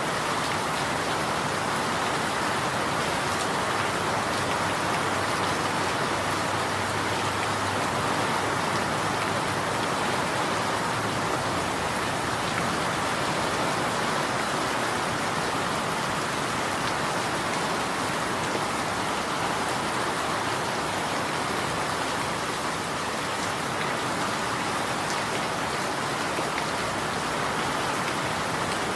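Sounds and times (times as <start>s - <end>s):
rain on a hard surface: 0.0s - 28.9s.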